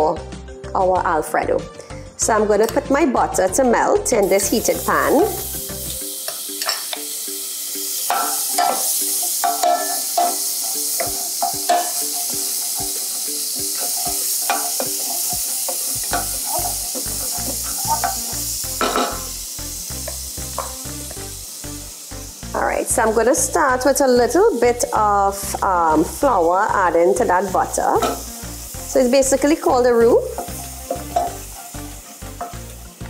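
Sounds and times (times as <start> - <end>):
background music: 0.0 - 33.0
butter sizzling in a pan: 3.6 - 33.0.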